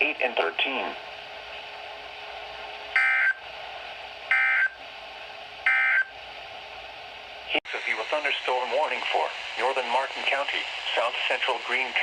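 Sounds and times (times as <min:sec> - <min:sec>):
receiver hiss: 0:00.0 - 0:12.0.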